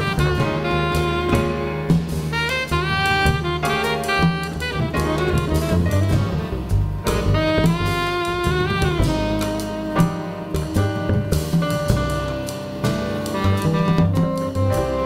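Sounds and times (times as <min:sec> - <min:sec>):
tenor saxophone melody: 0:00.0 - 0:11.2, 0:13.2 - 0:15.0
double bass: 0:00.0 - 0:15.0
drum kit: 0:00.0 - 0:15.0
piano: 0:00.0 - 0:15.0.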